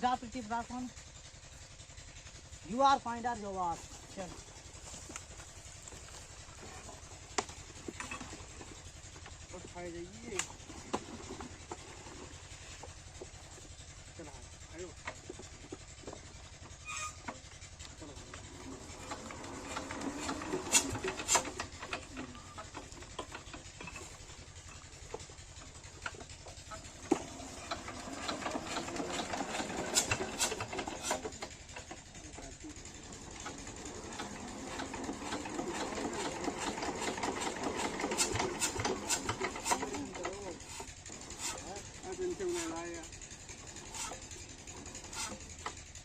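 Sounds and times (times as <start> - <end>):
diesel engine thudding: 0.2 - 46.0
rubbing and scraping handling noises: 3.4 - 17.5, 18.1 - 25.3, 26.0 - 31.6, 34.1 - 45.7.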